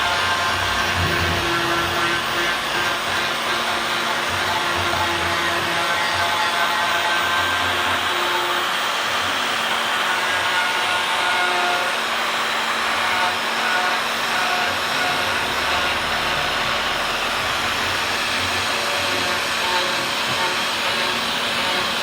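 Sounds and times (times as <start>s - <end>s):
power tool motor whirring: 0.0s - 22.0s.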